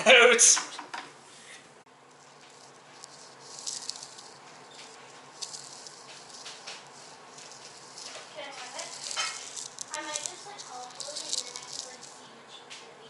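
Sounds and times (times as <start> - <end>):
crinkling and rustling from handling: 2.0 - 12.9.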